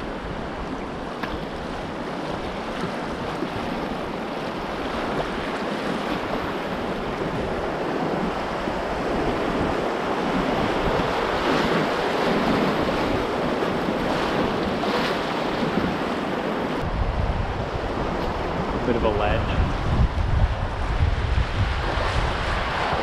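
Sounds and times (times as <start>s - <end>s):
whitewater rushing and splashing: 0.0s - 17.0s, 20.6s - 23.0s.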